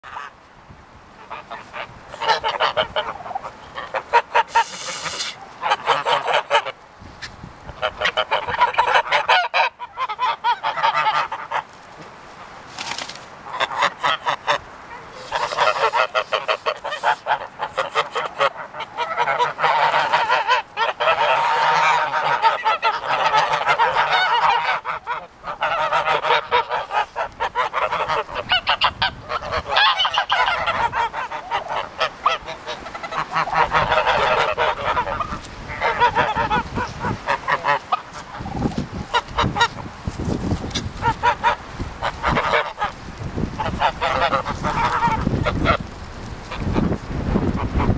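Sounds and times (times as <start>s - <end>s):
geese gabbling and honking: 0.0s - 0.4s, 1.2s - 6.8s, 7.7s - 11.8s, 13.4s - 47.9s.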